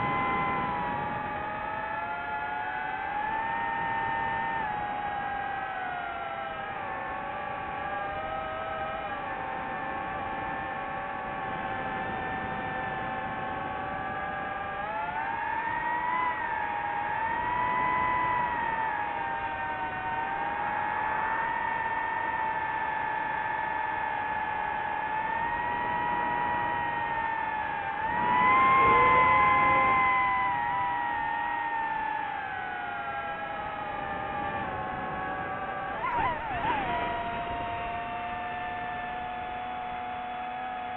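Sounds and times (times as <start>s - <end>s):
drone propellers whining: 0.0s - 40.9s.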